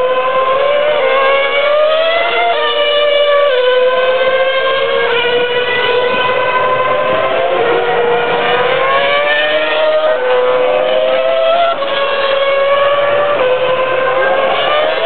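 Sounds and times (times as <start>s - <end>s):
racing car engine screaming: 0.0s - 15.0s.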